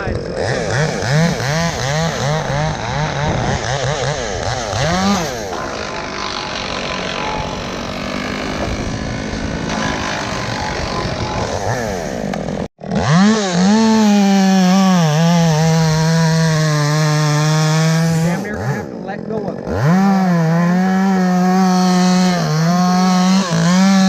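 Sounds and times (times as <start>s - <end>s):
chainsaw running at high speed: 0.0s - 24.0s.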